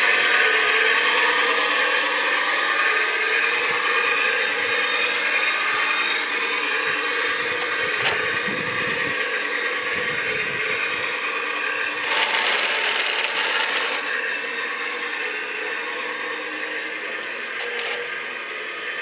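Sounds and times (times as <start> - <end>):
model truck motor whine: 0.0 - 19.0.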